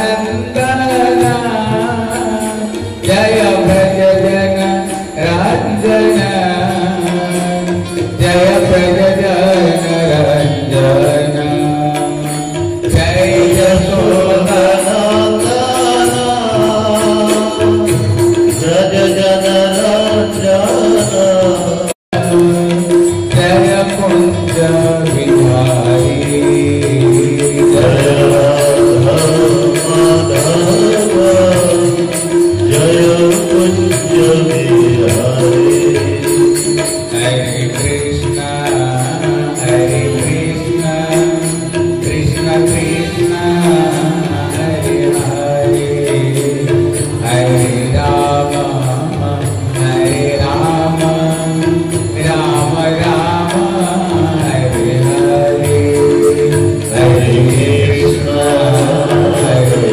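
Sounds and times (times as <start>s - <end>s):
jingling percussion: 0.0s - 59.9s.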